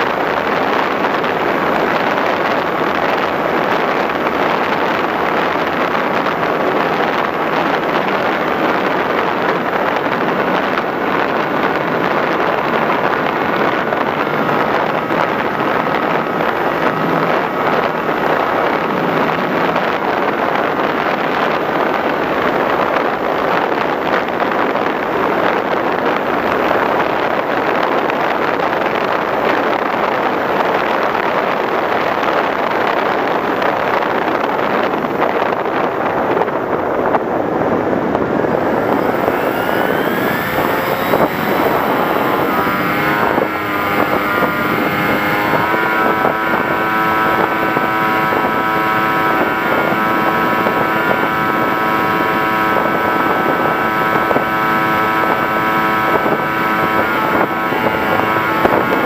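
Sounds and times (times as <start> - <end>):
propeller motor whine: 0.0 - 59.0
rush of air noise: 0.0 - 59.0.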